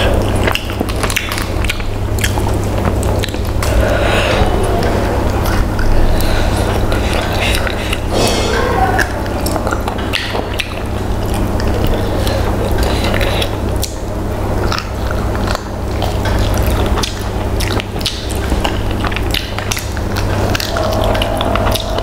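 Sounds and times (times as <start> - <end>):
wet chewing and mouth smacking: 0.0 - 8.1, 9.0 - 21.9
steady low hum: 0.0 - 22.0.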